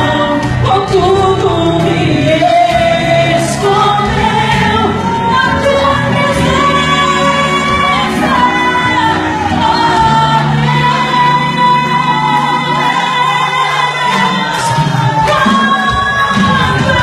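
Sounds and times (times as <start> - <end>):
amplified backing music: 0.0 - 17.0
woman singing into microphone: 0.0 - 17.0.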